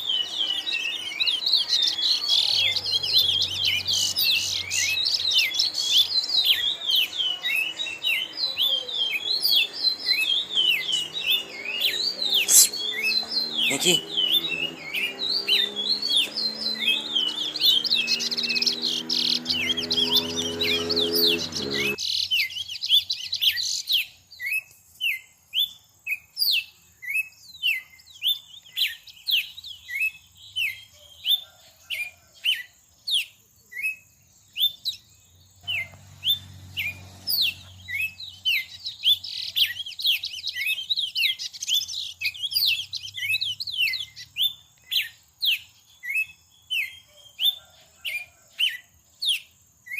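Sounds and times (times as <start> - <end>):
songbird chirping: 0.0 - 49.9.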